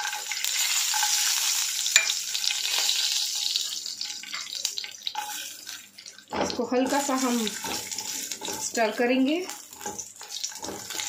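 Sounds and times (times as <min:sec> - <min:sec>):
nuts sizzling in hot oil: 0:00.0 - 0:11.0.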